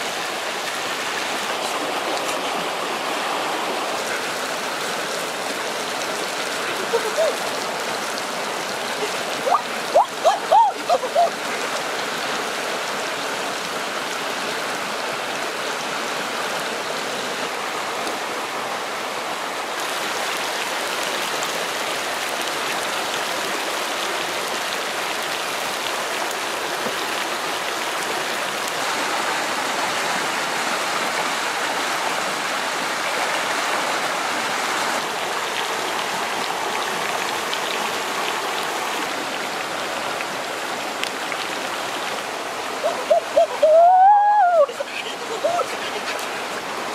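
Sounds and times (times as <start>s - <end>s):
rushing stream: 0.0s - 46.9s.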